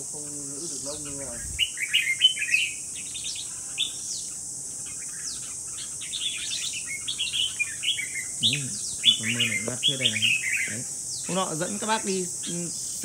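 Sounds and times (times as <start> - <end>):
birds chirping and whistling: 0.0 - 13.0
high-pitched hiss: 0.0 - 13.0.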